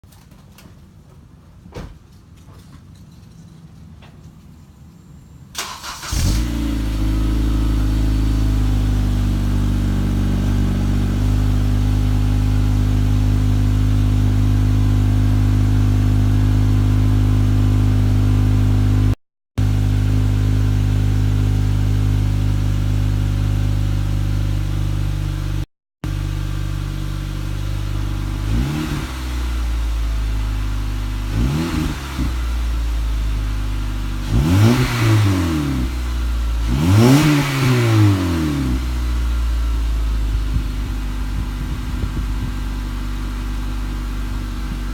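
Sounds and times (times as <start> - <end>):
car engine starting and idling: 2.0 - 44.9
engine revs blipped: 5.5 - 44.9.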